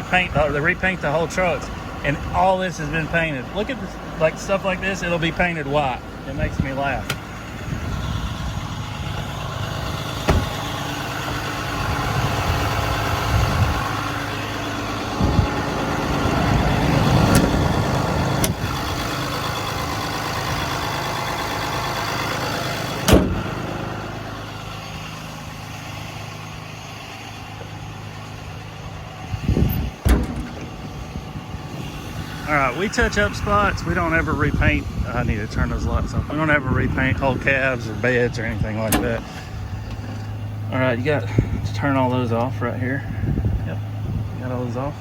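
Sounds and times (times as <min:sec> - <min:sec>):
diesel truck idling: 0:00.0 - 0:45.0.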